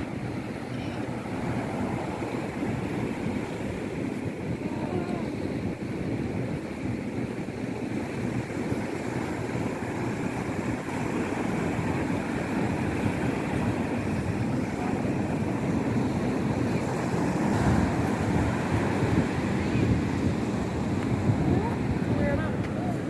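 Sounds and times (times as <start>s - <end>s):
sea surf washing in: 0.0s - 23.0s
wind buffeting microphone: 0.0s - 23.0s.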